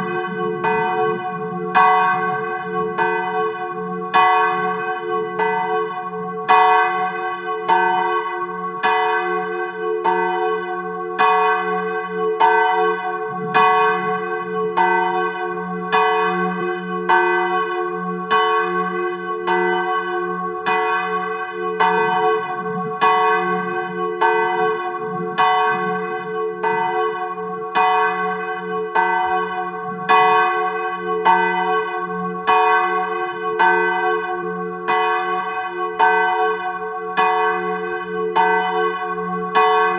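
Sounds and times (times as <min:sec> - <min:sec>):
swinging church bell ringing: 0:00.0 - 0:39.9.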